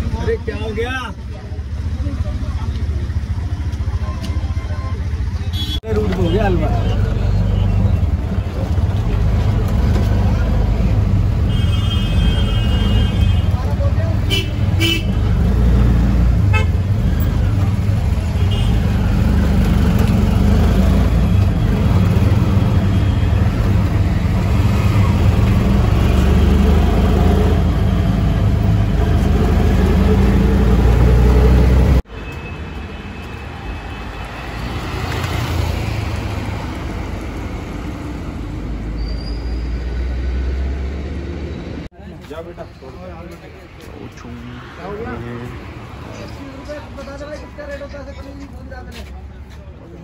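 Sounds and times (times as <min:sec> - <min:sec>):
rattling road noise: 0:00.0 - 0:50.0
roadside traffic noise: 0:00.0 - 0:50.0.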